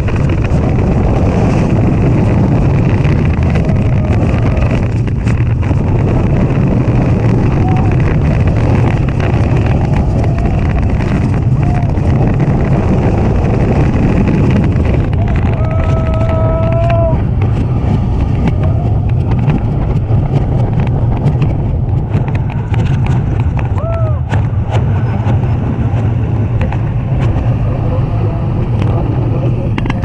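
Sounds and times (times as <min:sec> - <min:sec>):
roller coaster wheels rumbling and rattling: 0:00.0 - 0:30.0
wind noise on microphone: 0:00.0 - 0:30.0.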